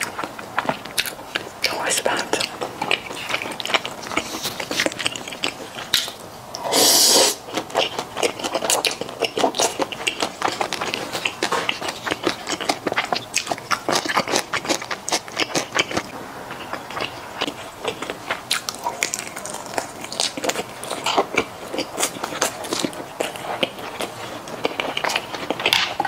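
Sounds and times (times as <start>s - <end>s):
wet chewing and mouth smacks: 0.0s - 6.6s, 7.4s - 26.0s.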